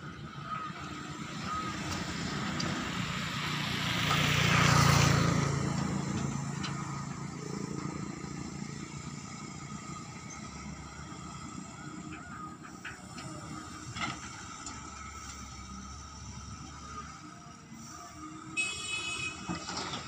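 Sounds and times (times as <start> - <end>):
lorry diesel engine passing: 0.0 - 20.0.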